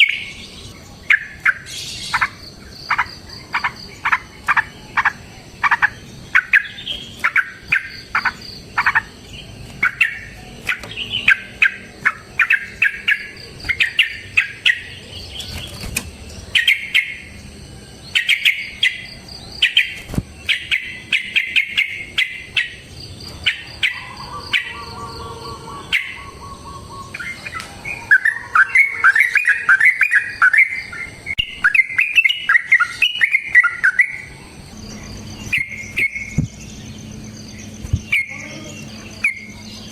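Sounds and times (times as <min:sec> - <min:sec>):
bird chip notes and chatter: 0:00.0 - 0:39.9.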